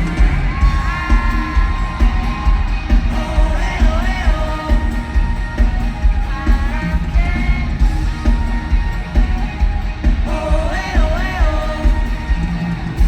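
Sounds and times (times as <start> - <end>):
heavy bass beat: 0.0 - 13.0
man singing long notes: 0.0 - 13.0.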